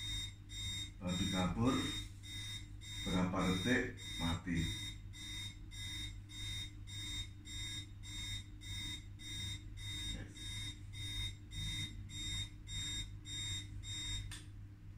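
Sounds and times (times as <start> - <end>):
high electronic beeps: 0.0 - 14.3
steady low hum: 0.0 - 14.9.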